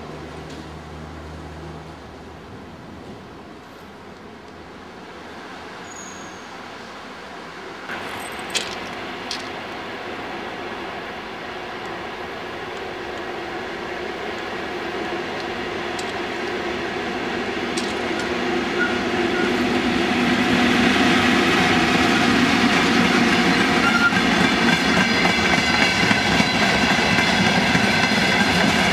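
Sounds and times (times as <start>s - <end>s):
freight train passing: 0.0s - 28.9s.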